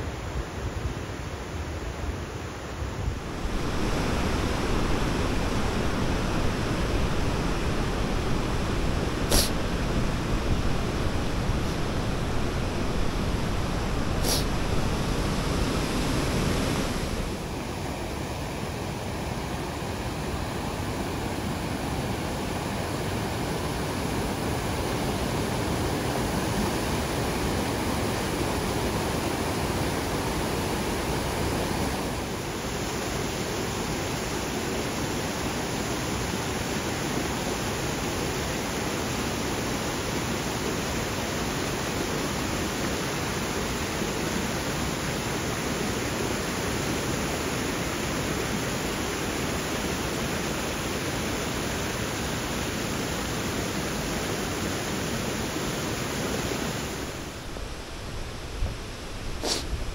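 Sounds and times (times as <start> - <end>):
waterfall rushing over rock: 3.2 - 59.9.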